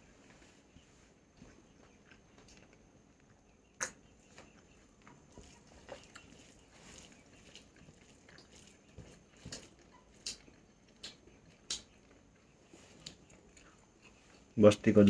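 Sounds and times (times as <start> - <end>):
person chewing food: 1.4 - 14.5.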